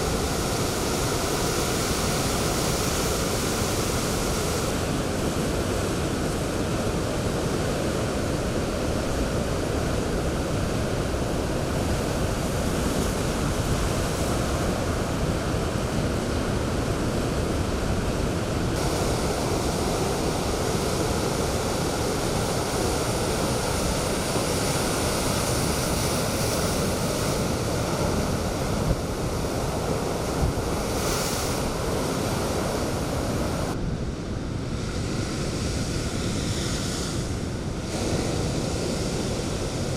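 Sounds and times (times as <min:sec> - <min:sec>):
waves breaking: 0:00.0 - 0:33.8, 0:34.8 - 0:39.9
strong wind on microphone: 0:00.0 - 0:39.9.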